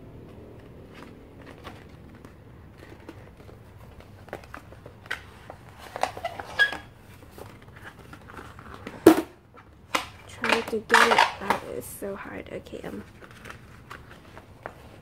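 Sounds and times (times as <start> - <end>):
glossy paper rustling and crinkling: 0.2 - 15.0.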